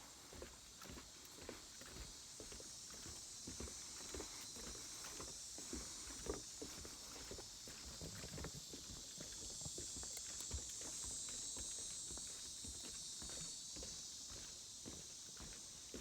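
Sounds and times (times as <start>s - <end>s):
footsteps on wooden boardwalk: 0.2s - 16.0s.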